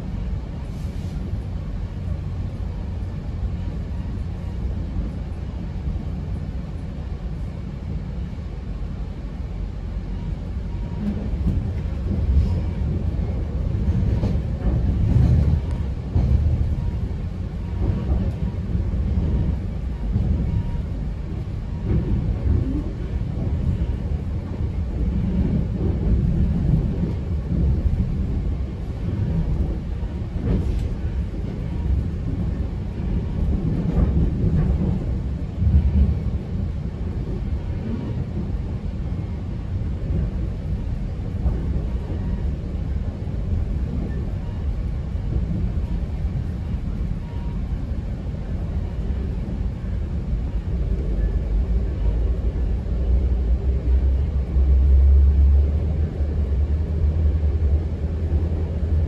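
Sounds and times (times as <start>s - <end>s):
train wheels rumbling on track: 0.0s - 59.0s
rail joint clicks: 9.9s - 59.0s.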